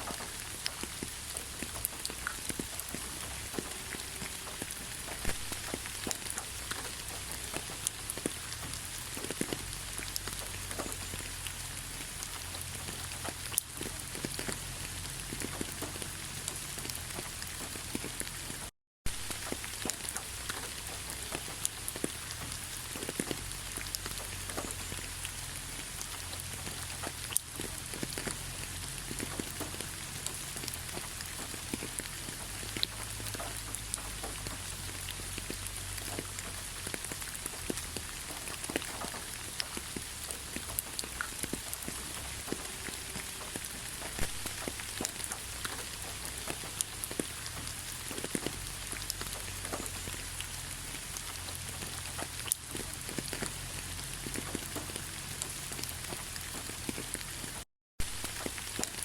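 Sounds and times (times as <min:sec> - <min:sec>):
rain hiss with drop ticks: 0:00.0 - 0:59.0.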